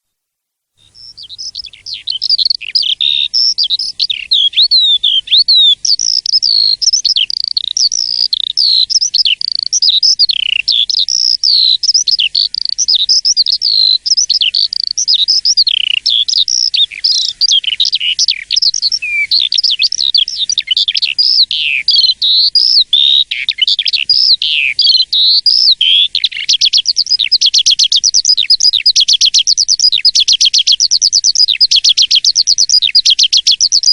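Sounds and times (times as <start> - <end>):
starling singing whistled notes: 0.8 - 33.9.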